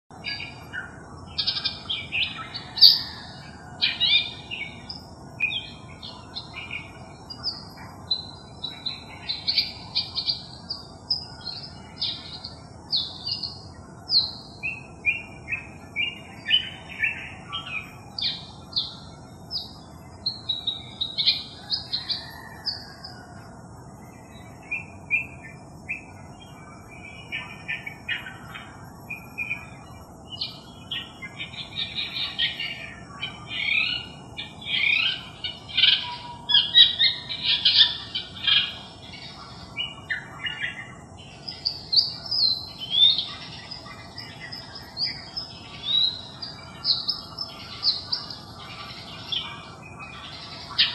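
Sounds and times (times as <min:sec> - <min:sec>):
bird singing chirps and squawks: 0:00.1 - 0:50.9.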